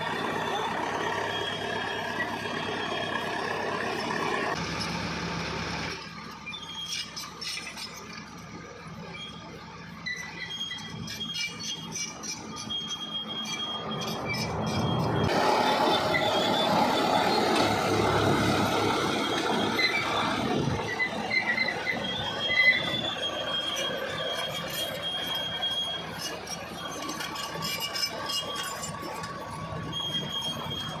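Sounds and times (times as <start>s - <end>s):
metallic squeal of tracks: 0.0s - 5.0s, 6.0s - 31.0s
bulldozer engine running: 0.0s - 31.0s.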